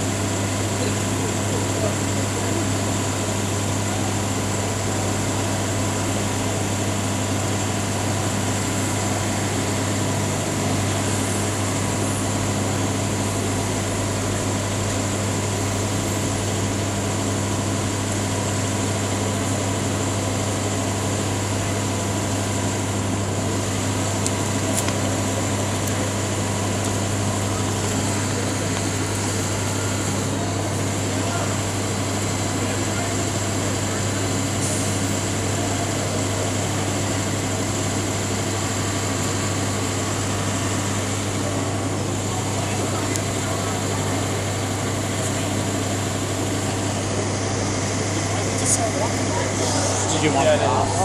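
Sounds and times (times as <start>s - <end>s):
air conditioning blower hiss: 0.0s - 51.0s
engine idling hum: 0.0s - 51.0s.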